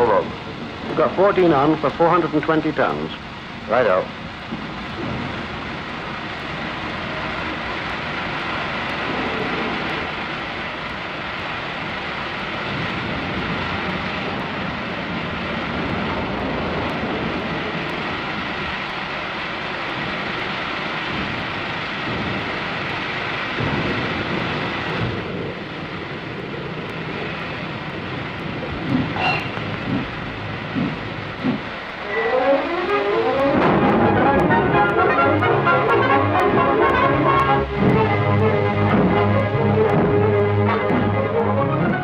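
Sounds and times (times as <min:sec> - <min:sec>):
noisy film soundtrack: 0:00.0 - 0:42.0
steam locomotive rumble and hiss: 0:00.0 - 0:42.0.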